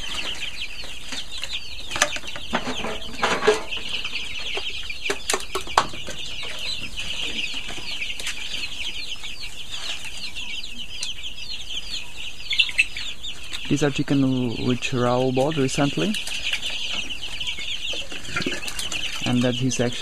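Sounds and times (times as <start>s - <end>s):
chickens cheeping: 0.0s - 20.0s.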